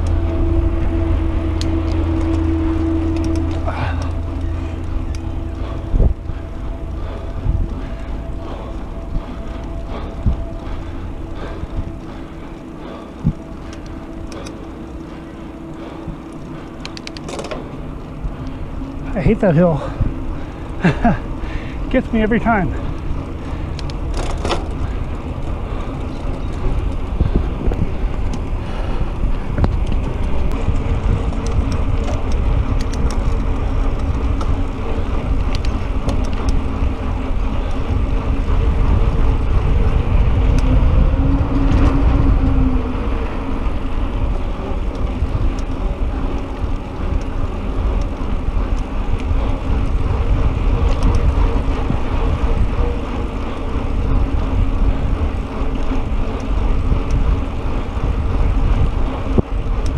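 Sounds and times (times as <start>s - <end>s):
bike clicks and rattles: 0.0s - 59.9s
bike tyres rolling on pavement: 0.0s - 59.9s
wind rumble on microphone: 0.0s - 59.9s.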